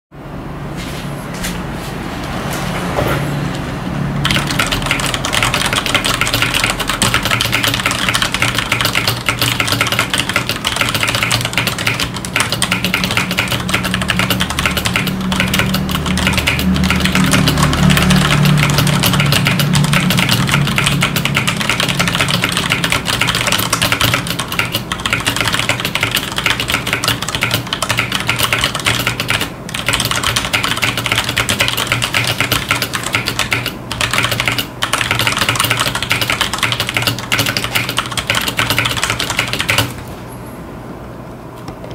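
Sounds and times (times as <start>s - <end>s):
fast mechanical keyboard typing: 4.2s - 40.0s.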